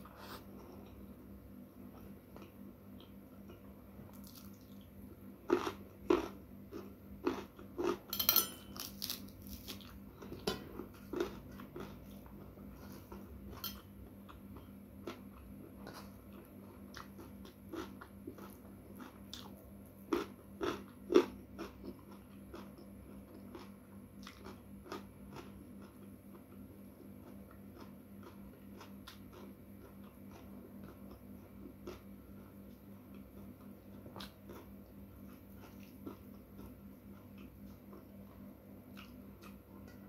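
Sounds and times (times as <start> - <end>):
crunchy chewing: 1.8 - 8.1, 8.8 - 40.0.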